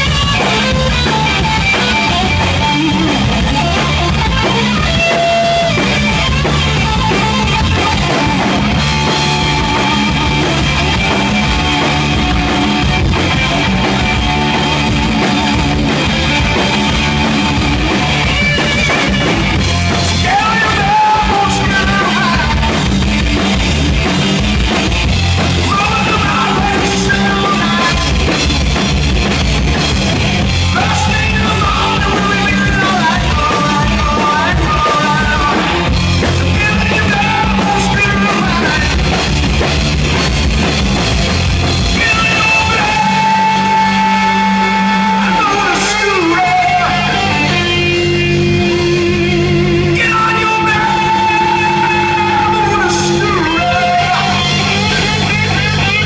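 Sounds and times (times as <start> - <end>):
person singing: 0.0 - 23.4, 25.4 - 28.7, 30.6 - 39.4, 41.9 - 56.0
bass: 0.0 - 56.0
drum kit: 0.0 - 56.0
electric guitar: 0.0 - 56.0.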